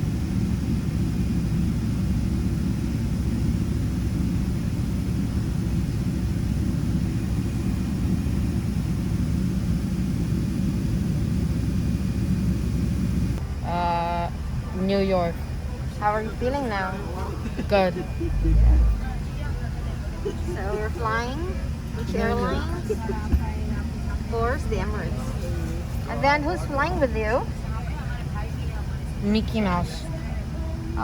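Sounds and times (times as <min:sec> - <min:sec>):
airliner cabin engine rumble: 0:00.0 - 0:31.0.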